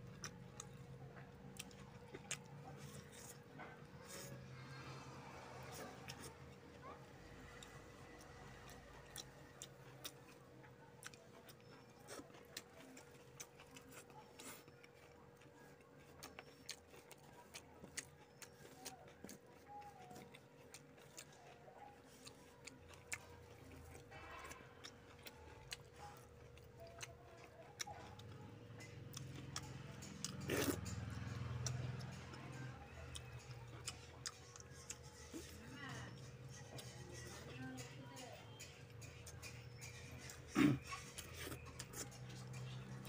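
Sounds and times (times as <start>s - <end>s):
fingers working food: 0.0s - 43.0s
man chewing food: 0.0s - 43.0s.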